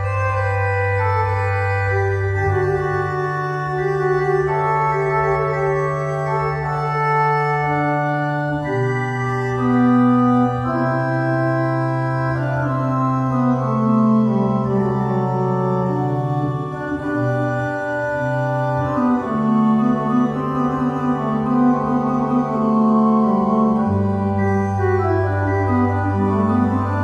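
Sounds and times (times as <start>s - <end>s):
organ playing held chords: 0.0s - 27.0s.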